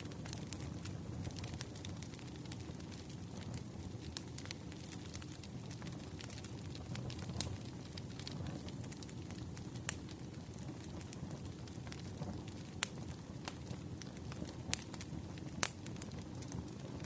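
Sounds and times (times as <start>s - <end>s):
low rumble of burning: 0.0s - 17.0s
wood fire crackling: 0.0s - 17.0s.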